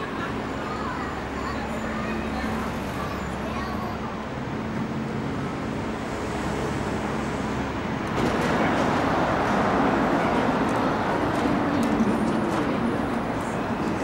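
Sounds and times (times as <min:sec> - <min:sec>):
passing vehicles hum: 0:00.0 - 0:14.0.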